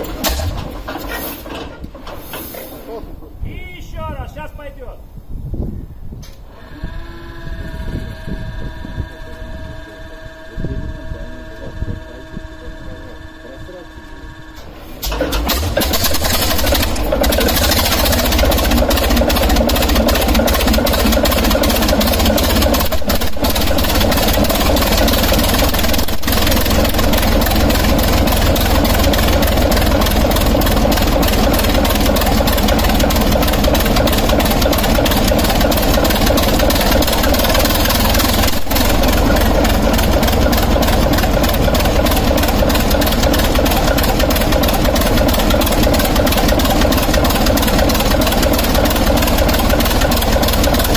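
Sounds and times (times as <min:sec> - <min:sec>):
diesel engine pulsing exhaust: 0:06.4 - 0:50.9.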